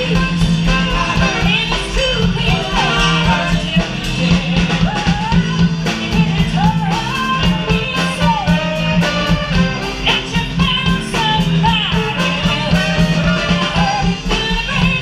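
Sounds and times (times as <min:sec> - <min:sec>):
drum beat: 0:00.0 - 0:15.0
saxophone: 0:00.0 - 0:15.0.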